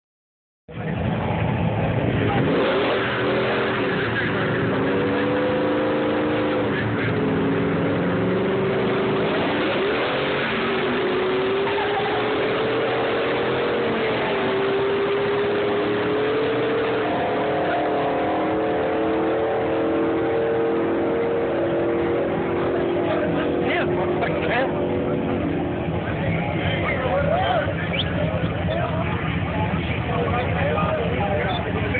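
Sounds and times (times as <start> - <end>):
truck engines running loudly: 0.7 - 31.9.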